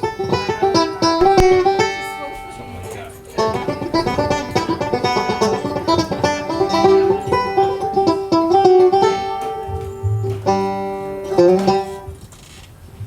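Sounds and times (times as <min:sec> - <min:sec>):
acoustic plucked string music: 0:00.0 - 0:12.4.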